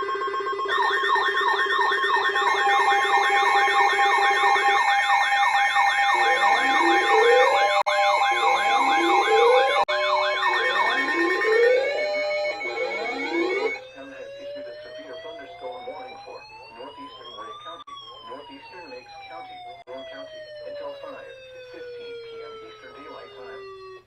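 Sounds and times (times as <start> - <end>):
rising siren sweeps: 0.0 - 24.0
warbling siren yelp: 0.0 - 24.0
steady alert tones: 0.6 - 24.0.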